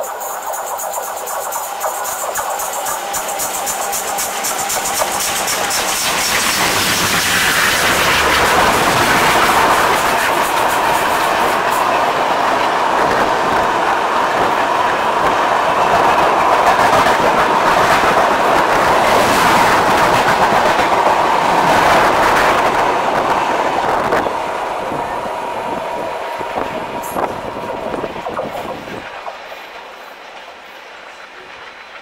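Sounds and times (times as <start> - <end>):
train rushing past: 0.0 - 32.0.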